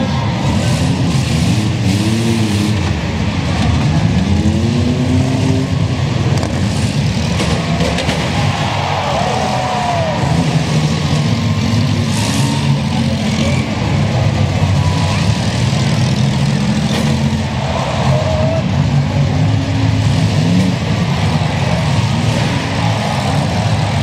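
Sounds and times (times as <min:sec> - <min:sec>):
engines revving together: 0:00.0 - 0:24.0.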